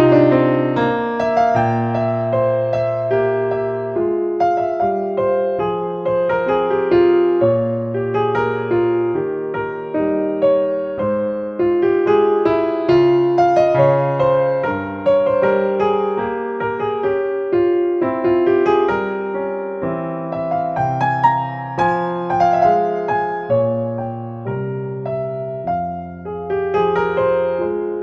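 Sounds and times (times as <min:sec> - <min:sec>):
piano-like keyboard music: 0:00.0 - 0:28.0.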